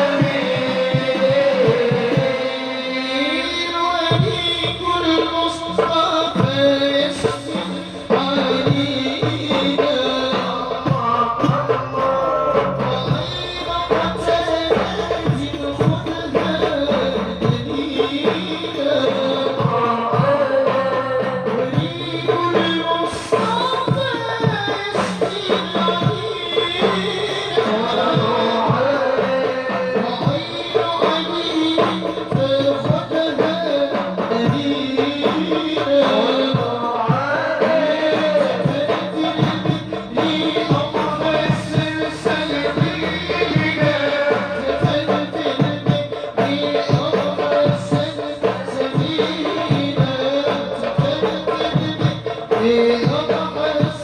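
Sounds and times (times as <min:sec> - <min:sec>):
voices chanting devotional melody: 0:00.0 - 0:54.0
hand drums beating: 0:03.6 - 0:54.0.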